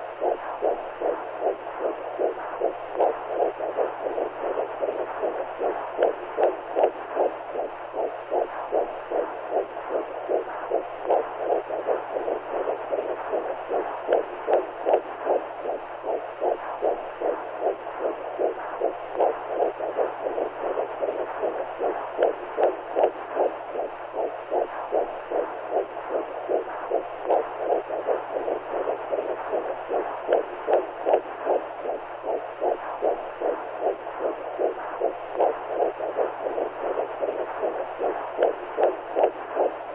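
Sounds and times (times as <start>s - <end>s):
rhythmic whooshing heartbeat pulse: 0.0s - 39.9s
steady low hum: 0.0s - 39.9s.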